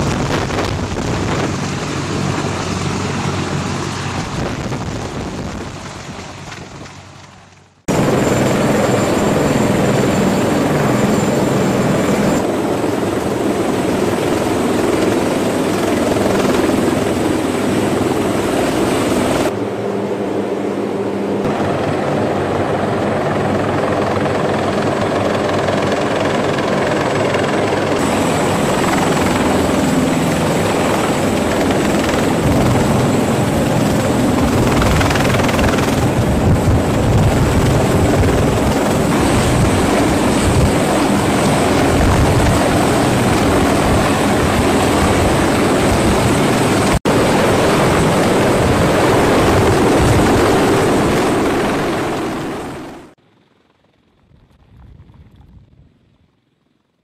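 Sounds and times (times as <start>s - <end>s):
helicopter rotor and turbine noise: 0.0s - 57.0s.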